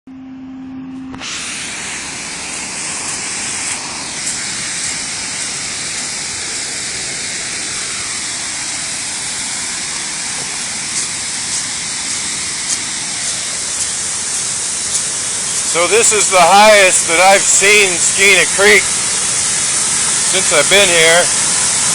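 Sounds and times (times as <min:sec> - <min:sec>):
water rushing over rapids: 0:01.5 - 0:21.9.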